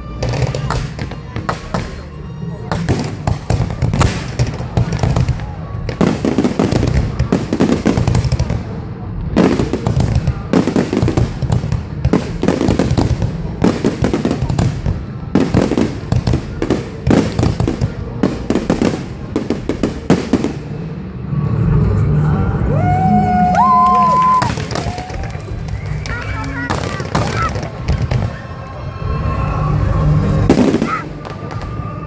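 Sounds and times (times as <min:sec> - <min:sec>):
fireworks bangs and crackles: 0:00.0 - 0:22.2, 0:23.5 - 0:32.0.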